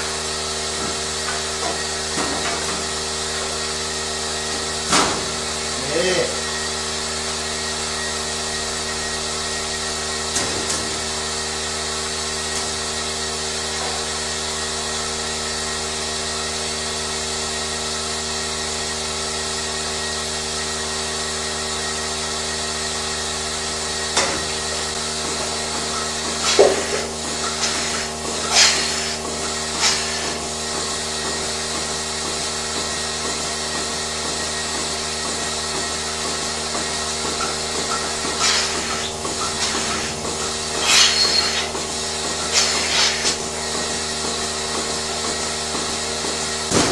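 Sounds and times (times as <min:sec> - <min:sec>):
milking machine humming: 0:00.0 - 0:46.9.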